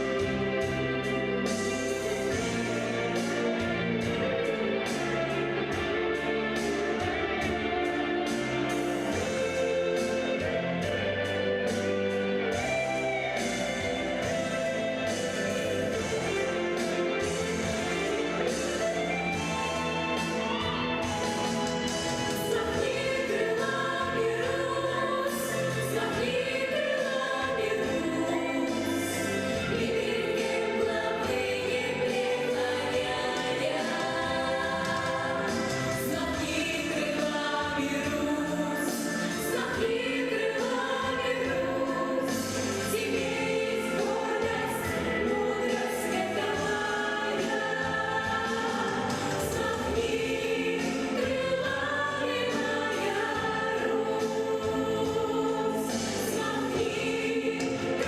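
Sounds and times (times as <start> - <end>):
children's choir singing: 0.0 - 58.0
musical accompaniment: 0.0 - 58.0.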